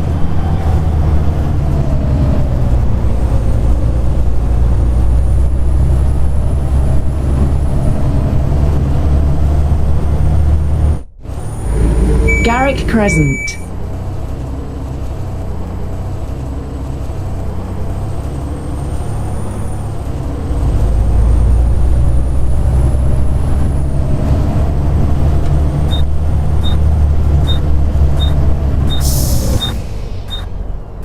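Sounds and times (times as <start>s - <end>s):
bus diesel engine whining: 0.0s - 31.0s.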